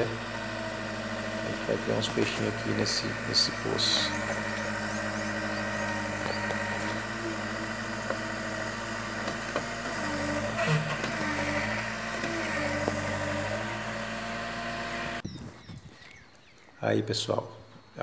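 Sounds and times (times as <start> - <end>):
diesel engine running: 0.0 - 15.4.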